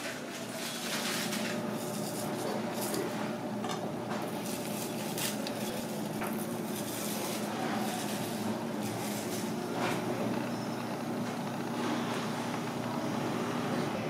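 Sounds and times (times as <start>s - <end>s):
steady hum: 0.9s - 14.0s.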